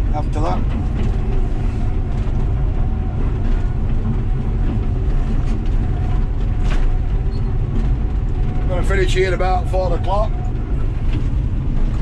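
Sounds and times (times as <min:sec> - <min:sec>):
diesel excavator engine under load: 0:00.0 - 0:12.0
steel tracks clanking: 0:00.0 - 0:12.0.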